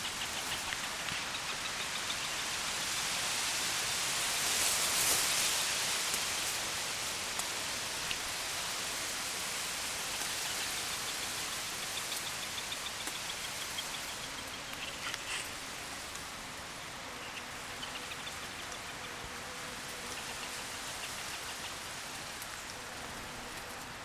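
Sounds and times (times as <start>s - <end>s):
rushing hiss of outdoor noise: 0.0s - 24.0s.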